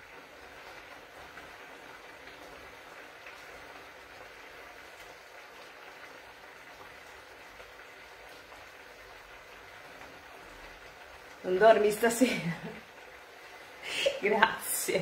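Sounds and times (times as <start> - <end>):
risotto bubbling in a pan: 0.0 - 15.0.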